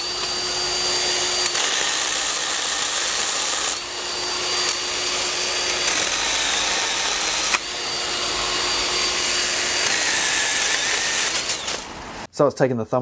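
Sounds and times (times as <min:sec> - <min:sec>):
pruning chainsaw whine: 0:00.0 - 0:12.3.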